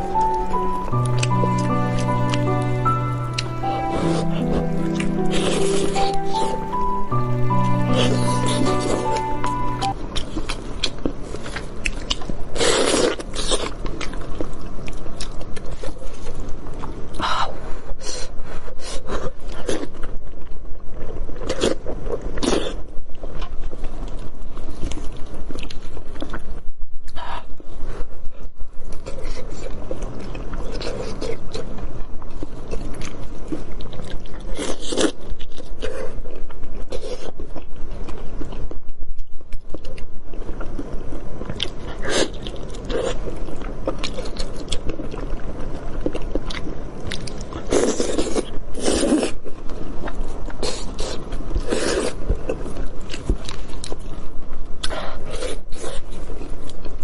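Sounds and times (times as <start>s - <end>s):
close chewing: 0.0s - 27.6s, 28.3s - 57.0s.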